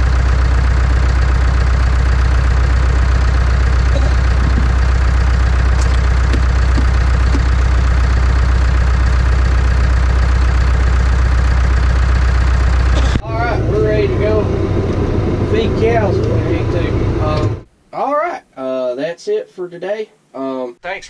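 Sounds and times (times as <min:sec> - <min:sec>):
tractor diesel engine idling: 0:00.0 - 0:17.7.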